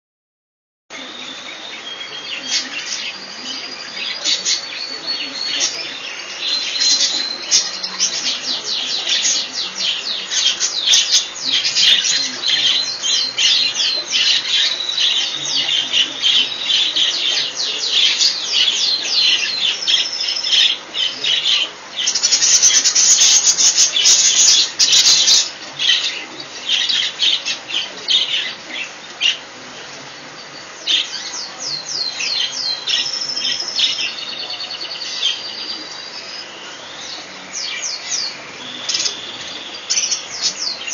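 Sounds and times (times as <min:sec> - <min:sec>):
budgerigars chirping and squawking: 0:01.1 - 0:40.9.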